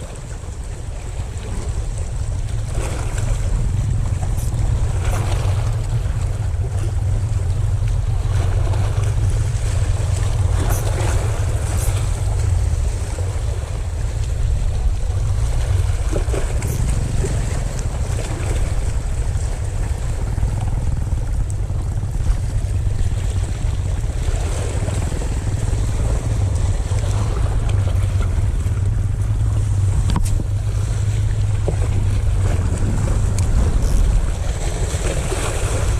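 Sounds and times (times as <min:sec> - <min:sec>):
choppy sea waves: 0:00.0 - 0:35.9
wind buffeting microphone: 0:00.0 - 0:35.9.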